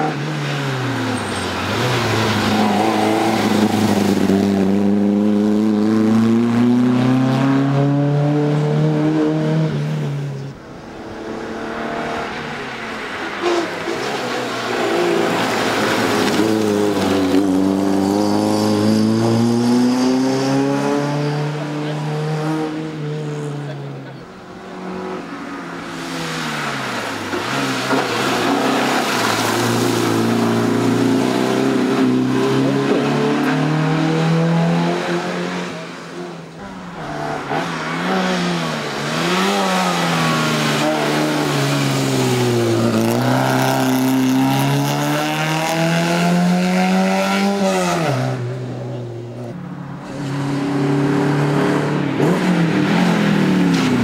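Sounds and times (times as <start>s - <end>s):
rally cars revving past: 0.0s - 54.0s.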